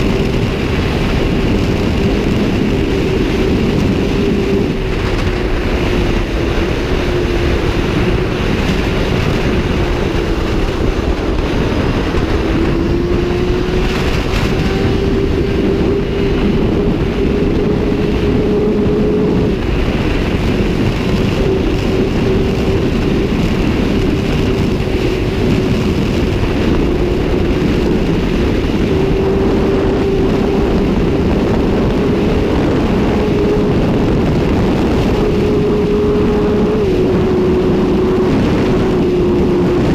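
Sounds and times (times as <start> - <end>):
motorcycle engine at high revs: 0.0 - 39.9
wind rush on microphone: 0.0 - 39.9.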